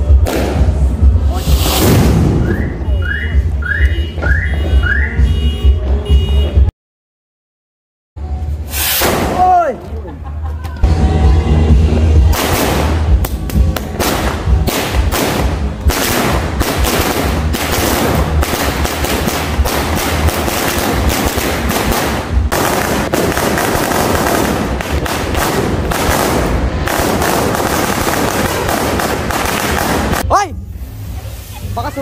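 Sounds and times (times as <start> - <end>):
firecrackers banging: 0.0 - 4.8, 8.6 - 9.9, 12.1 - 31.8.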